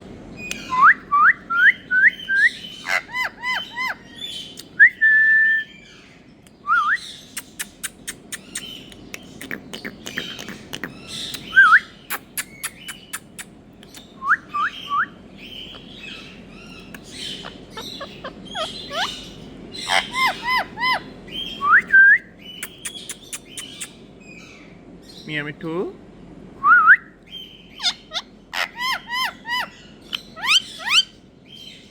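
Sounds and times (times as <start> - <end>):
parrot whistling and chirping: 0.4 - 5.9, 6.6 - 8.9, 11.2 - 24.0, 26.6 - 31.8.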